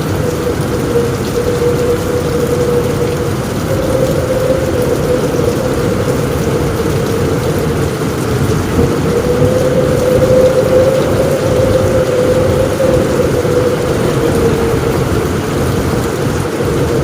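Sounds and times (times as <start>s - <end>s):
heavy rain on a roof: 0.0s - 17.0s.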